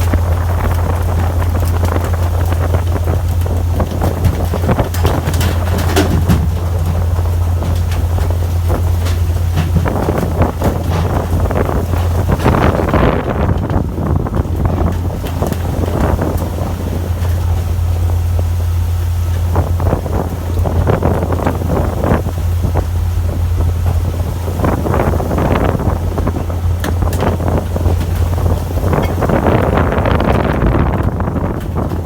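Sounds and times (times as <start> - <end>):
boat engine humming: 0.0 - 32.0
wind buffeting microphone: 0.0 - 32.0.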